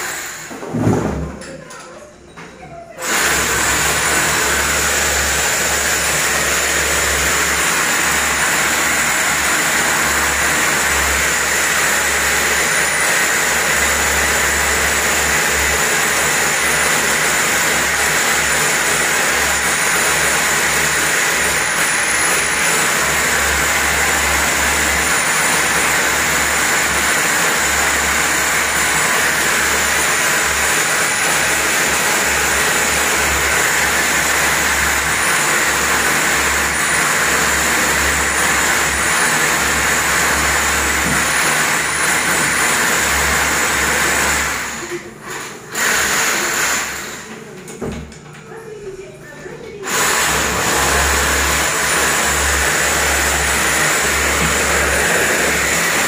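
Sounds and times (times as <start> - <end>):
electric drill boring into masonry: 0.0 - 0.9, 3.0 - 47.5, 49.8 - 56.0.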